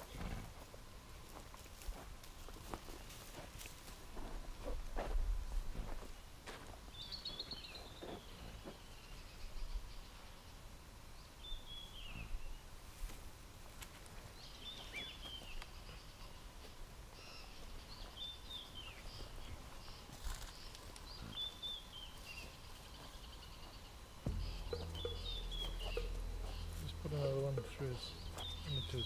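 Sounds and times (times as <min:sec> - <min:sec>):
faint bush background noise: 0:00.0 - 0:29.0.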